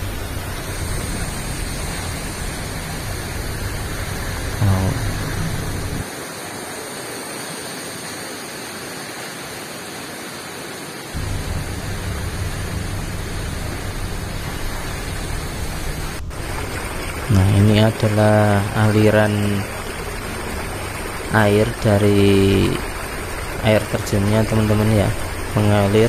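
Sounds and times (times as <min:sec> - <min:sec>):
low rumble: 0:00.0 - 0:06.0, 0:11.2 - 0:26.0
waterfall roaring: 0:00.0 - 0:26.0.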